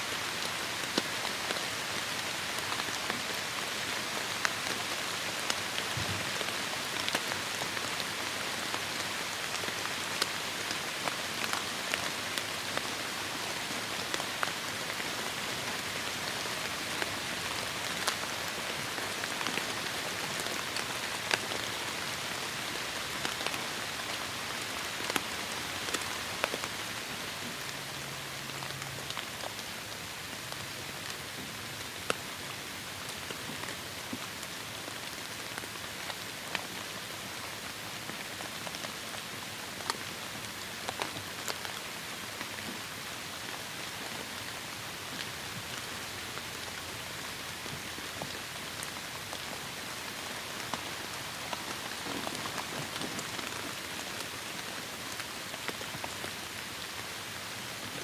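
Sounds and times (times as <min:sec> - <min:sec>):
heavy rain falling: 0:00.1 - 0:31.8, 0:32.9 - 0:58.0.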